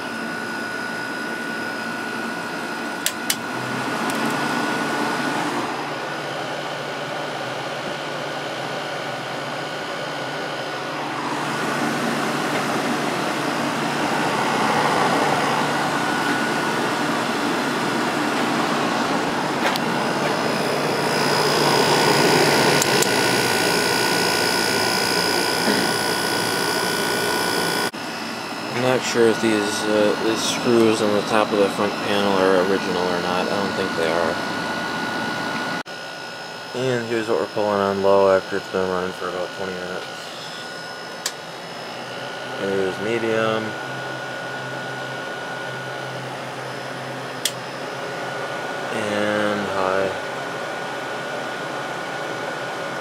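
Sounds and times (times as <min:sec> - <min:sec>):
air conditioner running: 0:00.0 - 0:53.0.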